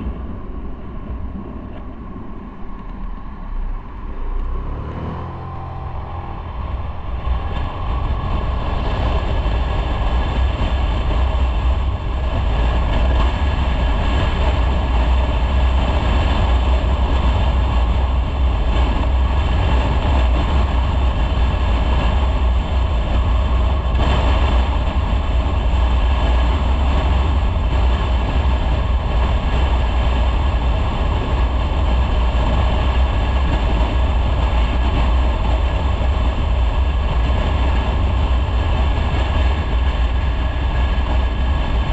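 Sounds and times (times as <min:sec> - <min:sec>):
motorcycle engine rumble: 0:00.0 - 0:41.9
wind on microphone: 0:00.0 - 0:41.9.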